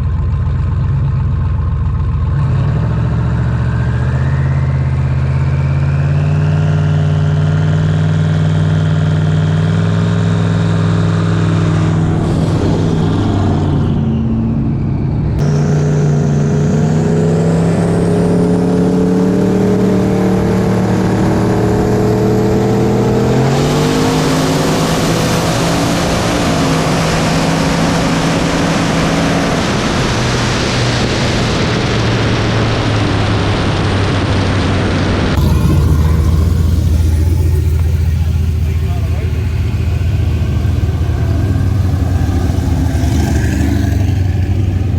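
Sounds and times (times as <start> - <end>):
engine accelerating hard: 0.0 - 44.9
high turbo whine: 0.0 - 44.9.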